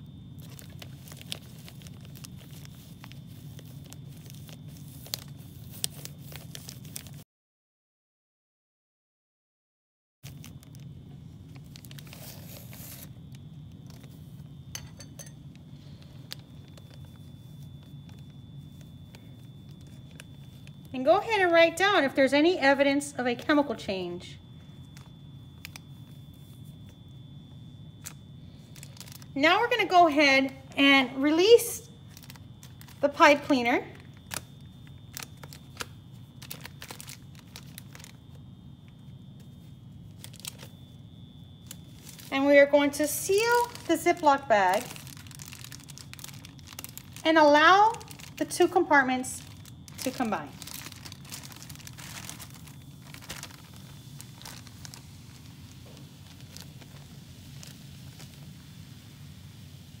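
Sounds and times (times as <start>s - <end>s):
faint high whine: 0.0s - 7.2s, 10.2s - 60.0s
plastic bag crinkling: 0.0s - 7.2s, 10.2s - 22.6s, 23.3s - 27.3s, 27.9s - 59.1s.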